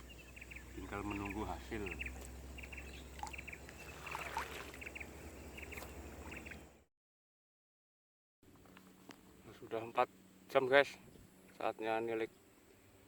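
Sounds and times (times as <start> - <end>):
birds chirping: 0.0 - 6.8, 8.7 - 13.0.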